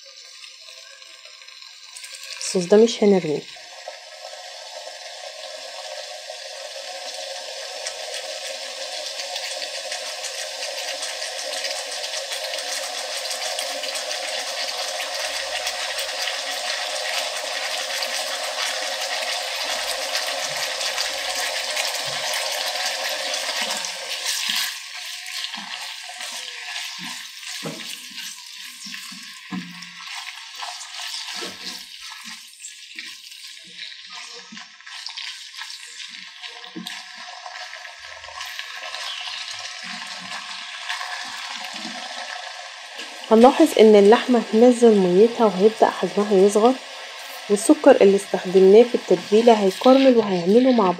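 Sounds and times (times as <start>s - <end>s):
meat sizzling in hot oil: 0.0s - 50.9s
oil popping and crackling: 0.0s - 50.9s.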